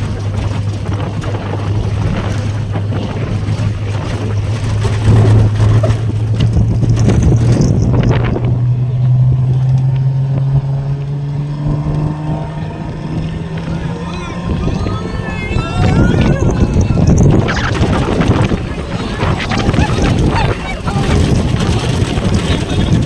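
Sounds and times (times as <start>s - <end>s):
car engine running: 0.0s - 23.0s
wind rushing over microphone: 0.0s - 23.0s.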